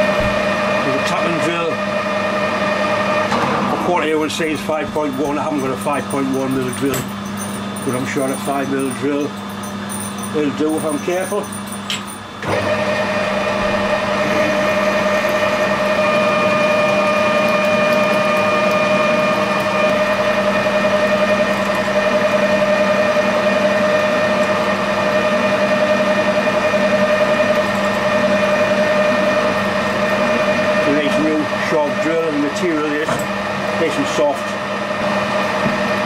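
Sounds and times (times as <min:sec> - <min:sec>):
metal lathe humming: 0:00.0 - 0:36.0
drill boring into metal bar: 0:03.8 - 0:34.6.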